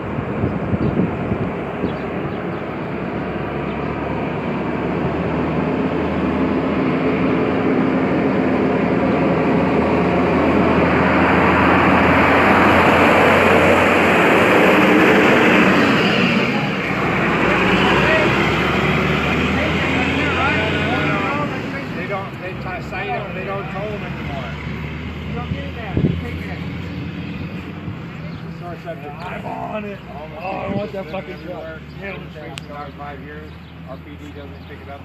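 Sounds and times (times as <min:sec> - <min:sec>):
vehicle engine and tyre noise: 0:00.0 - 0:35.0.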